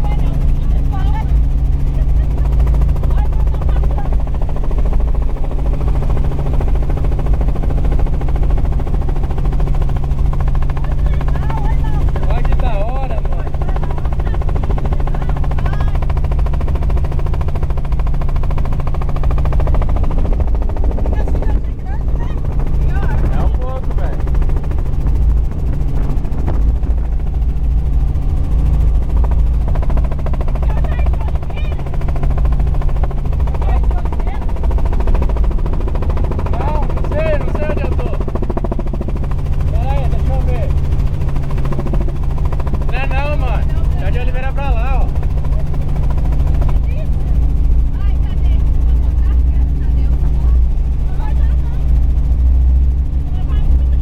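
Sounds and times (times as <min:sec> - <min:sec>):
helicopter engine drone: 0:00.0 - 0:54.0
helicopter rotor chop: 0:00.0 - 0:54.0.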